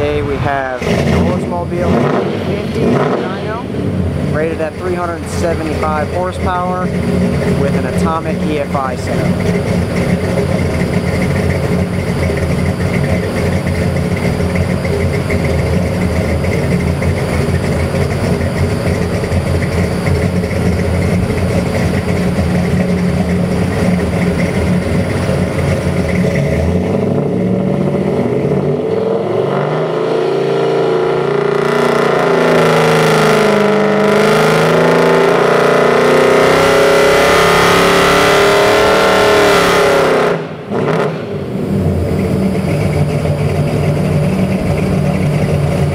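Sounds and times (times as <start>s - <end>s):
engine running and revving: 0.0s - 45.9s.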